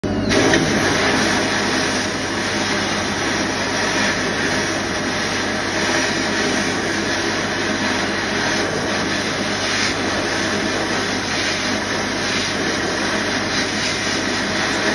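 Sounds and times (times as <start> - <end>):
sandblaster hissing: 0.3 - 14.9.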